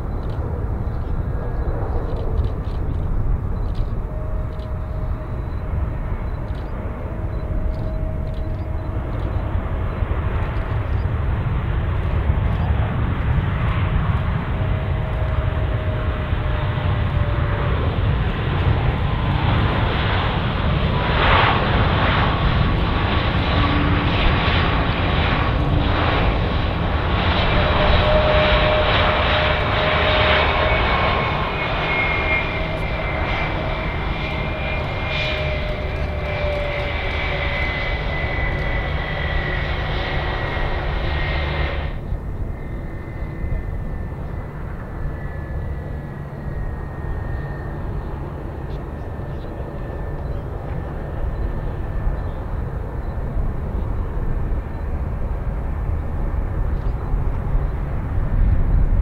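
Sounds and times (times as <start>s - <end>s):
faint small jet engine whine: 0.0s - 59.0s
jet engines whining: 0.0s - 59.0s.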